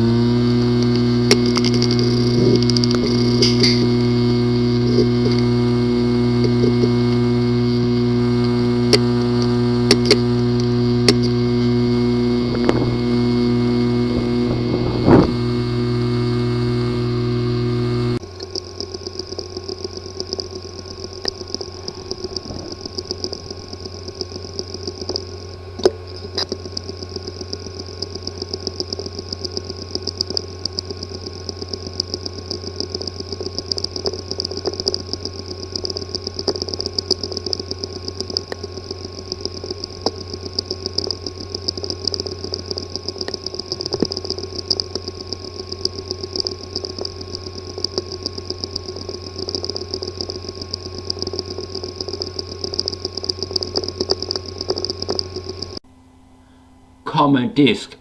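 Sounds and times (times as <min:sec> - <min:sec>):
hard drive fast ticking: 0:00.0 - 0:57.8
hard drive humming: 0:00.0 - 0:58.0.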